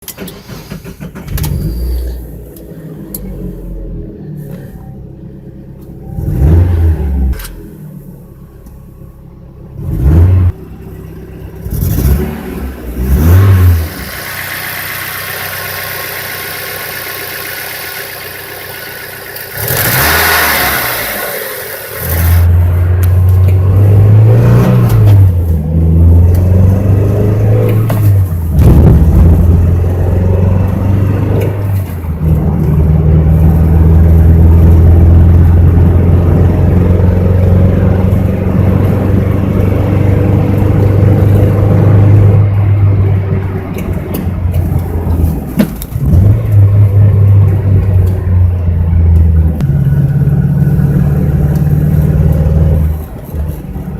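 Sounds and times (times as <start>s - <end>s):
car engine revving: 0.0s - 8.2s, 9.5s - 53.9s.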